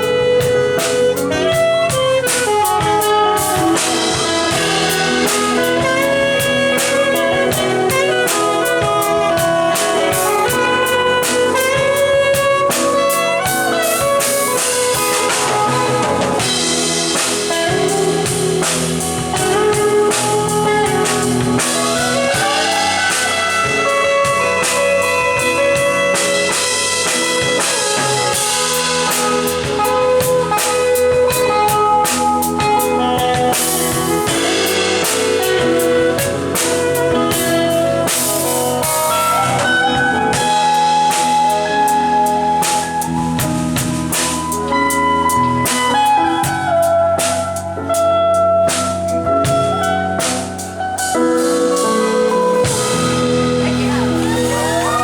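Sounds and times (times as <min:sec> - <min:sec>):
drum kit steady beat: 0:00.0 - 0:55.0
guitar: 0:00.0 - 0:55.0
lead melody bending in pitch: 0:00.0 - 0:55.0.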